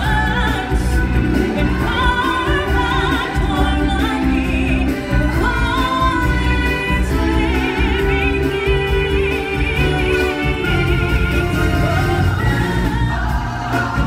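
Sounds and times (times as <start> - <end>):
stage-show backing music: 0.0 - 14.0.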